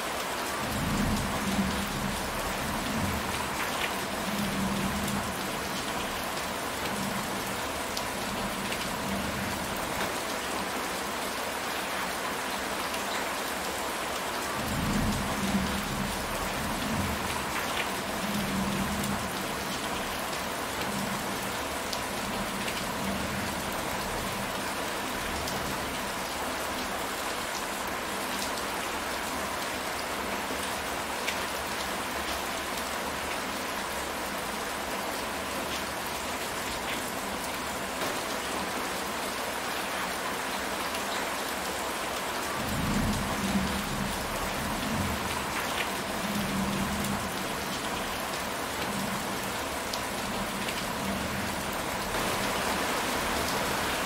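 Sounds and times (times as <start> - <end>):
heavy rain on roof and trees: 0.0 - 54.0.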